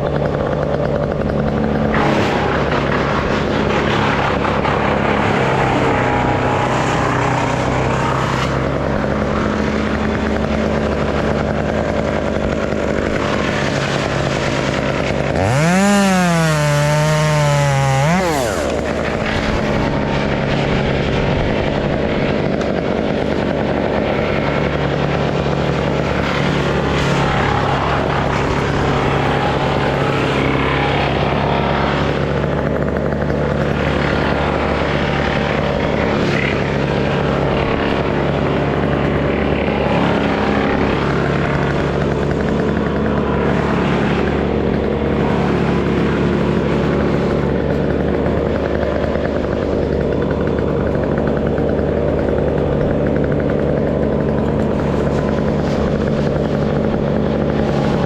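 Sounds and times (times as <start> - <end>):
chainsaw revving: 0.0 - 58.0
engine drone: 0.0 - 58.0.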